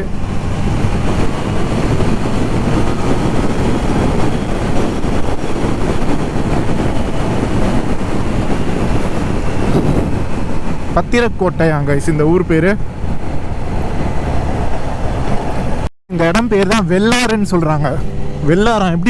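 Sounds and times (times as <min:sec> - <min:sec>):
motorcycle engine cruising: 0:00.0 - 0:15.9, 0:16.6 - 0:19.0
road noise: 0:00.0 - 0:19.0
wind rushing: 0:00.0 - 0:19.0.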